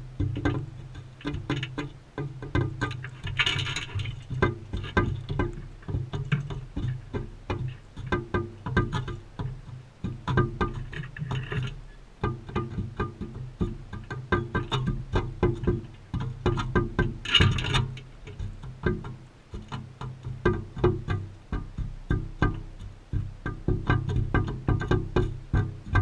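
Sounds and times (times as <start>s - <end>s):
steady bass line: 0.0s - 26.0s.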